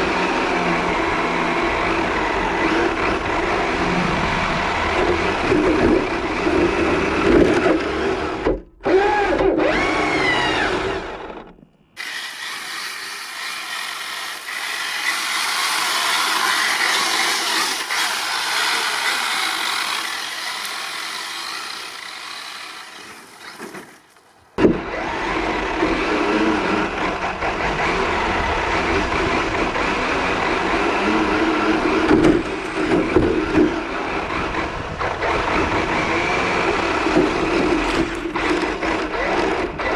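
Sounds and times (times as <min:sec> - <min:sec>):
electric motor whining and revving: 0:00.0 - 0:24.0, 0:24.6 - 0:39.9.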